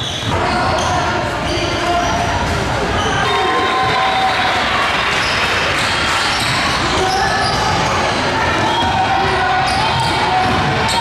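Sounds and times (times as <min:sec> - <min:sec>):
crowd and players' voices: 0:00.0 - 0:11.0.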